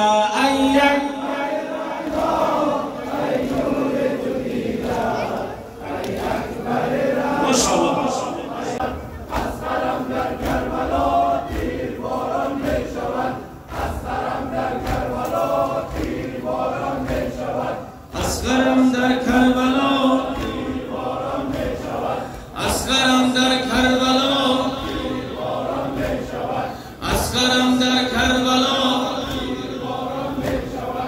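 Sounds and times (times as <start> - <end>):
crowd of men chanting: 0.0 - 31.0.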